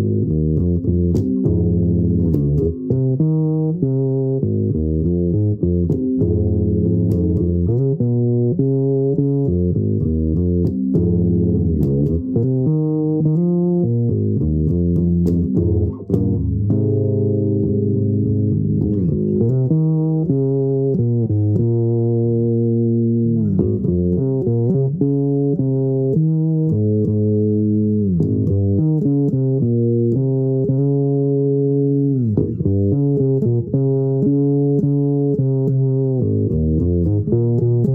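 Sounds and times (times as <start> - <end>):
fretless bass guitar sliding notes: 0.0 - 37.9.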